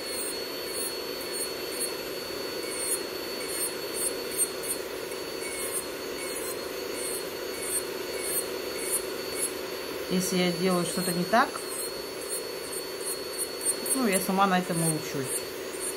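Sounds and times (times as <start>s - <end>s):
electric nail drill whining: 0.0s - 15.9s
extractor fan humming: 0.0s - 15.9s
scratchy grinding hiss: 0.0s - 15.9s.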